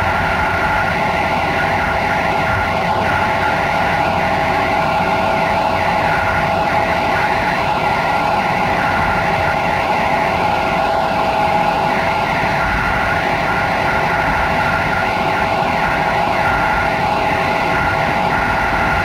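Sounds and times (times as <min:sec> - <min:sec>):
train rumbling at speed: 0:00.0 - 0:19.0.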